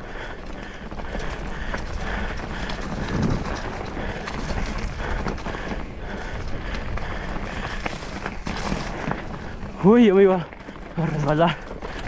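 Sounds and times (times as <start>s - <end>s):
bike rattling and clicking: 0.0s - 12.0s
tyres rolling over dirt and rock: 0.0s - 12.0s
wind buffeting microphone: 0.0s - 12.0s.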